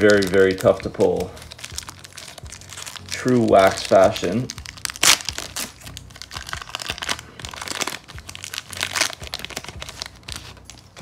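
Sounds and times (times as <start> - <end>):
wax paper crinkling and tearing: 0.0 - 11.0.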